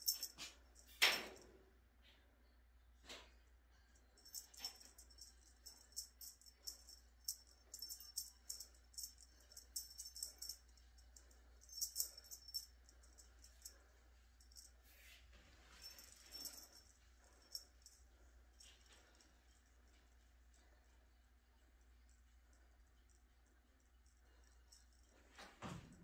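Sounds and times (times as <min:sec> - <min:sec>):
small object jingling and rattling: 0:00.0 - 0:01.4, 0:04.0 - 0:20.6, 0:22.0 - 0:26.0.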